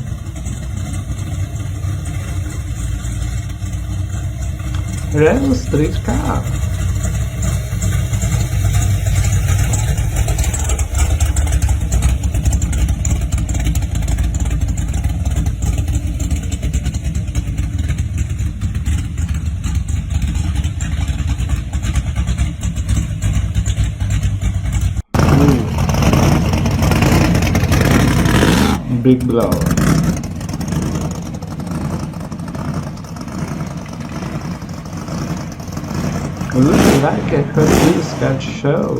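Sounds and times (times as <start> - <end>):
another car engine: 0.0 - 38.9
car engine low rumble: 0.0 - 38.9.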